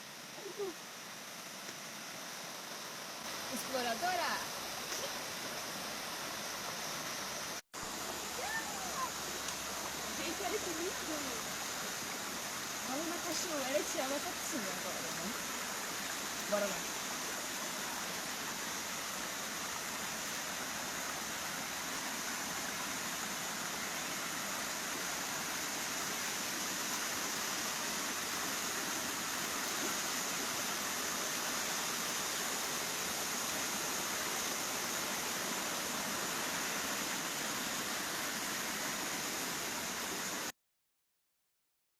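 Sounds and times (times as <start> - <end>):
waterfall rushing: 0.0 - 40.5.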